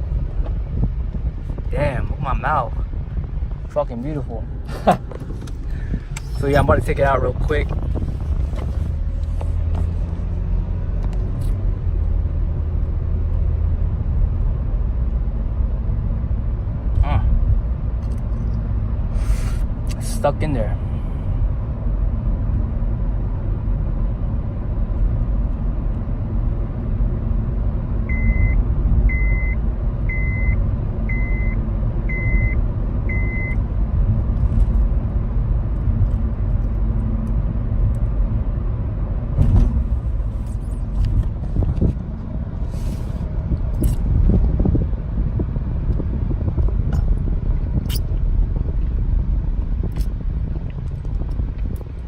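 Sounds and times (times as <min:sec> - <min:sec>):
low rumble: 0:00.0 - 0:20.0, 0:20.6 - 0:52.0.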